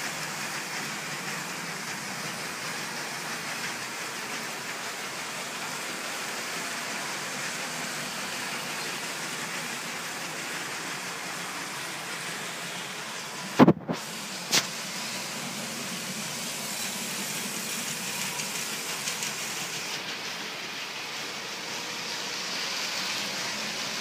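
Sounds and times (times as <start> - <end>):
wheels clicking on track: 0.0 - 13.6, 14.2 - 24.0
toy trains whirring and rattling: 0.0 - 24.0.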